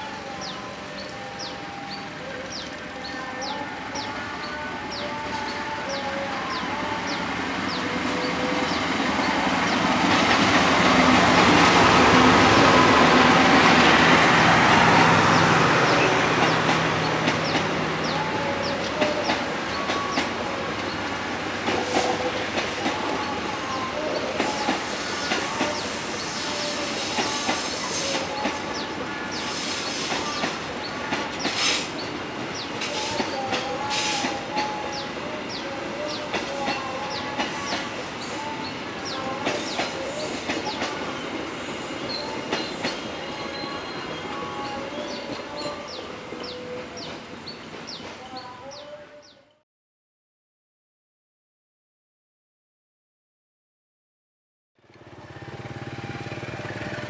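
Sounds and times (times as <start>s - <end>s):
diesel locomotive engine: 0.0s - 48.8s, 54.8s - 57.0s.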